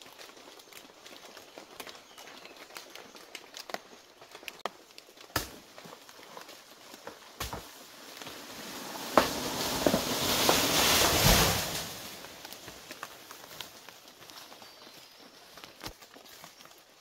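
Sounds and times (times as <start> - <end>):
rustling of leafy undergrowth: 0.0 - 17.0.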